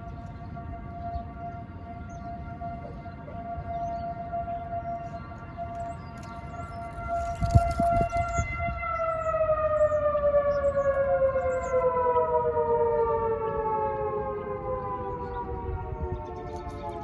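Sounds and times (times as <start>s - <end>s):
siren winding down: 2.6s - 17.0s.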